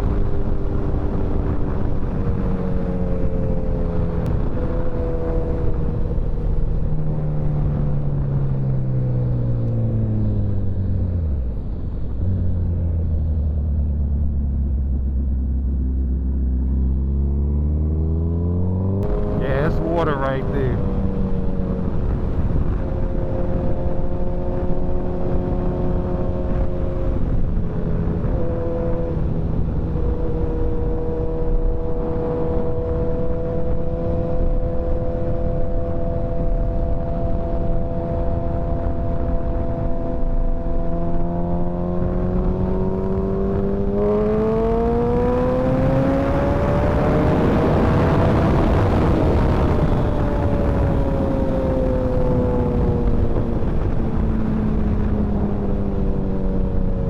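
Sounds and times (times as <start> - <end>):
rushing road noise: 0.0 - 57.0.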